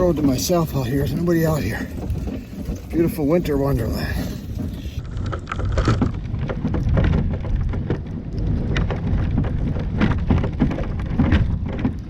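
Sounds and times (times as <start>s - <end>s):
tires crunching through wet snow: 0.0s - 12.0s.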